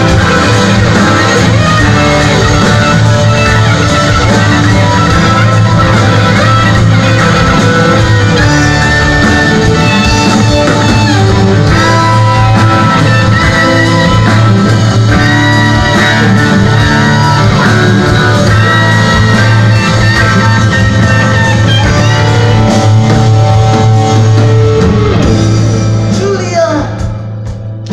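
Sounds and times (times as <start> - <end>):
violin lead lines: 0.0 - 25.8
bass guitar: 0.0 - 27.9
drums: 0.0 - 27.9
electric guitars: 0.0 - 27.9
keyboards: 0.0 - 27.9.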